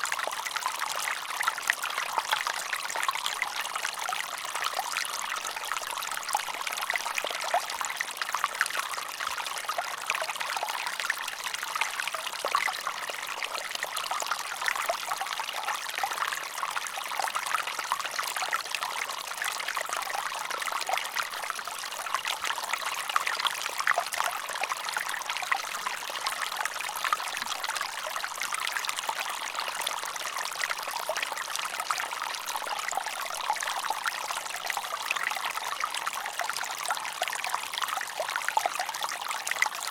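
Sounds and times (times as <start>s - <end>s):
stream water trickling and splashing: 0.0s - 39.9s.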